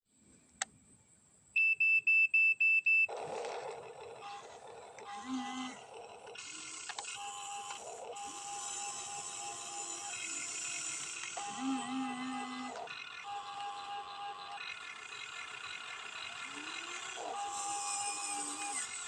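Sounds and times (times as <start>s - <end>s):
jumble of noise and tones: 3.1s - 19.0s.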